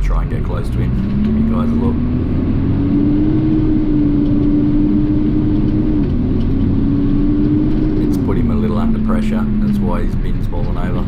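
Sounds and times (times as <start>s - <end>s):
garbage truck engine droning: 0.0s - 11.0s.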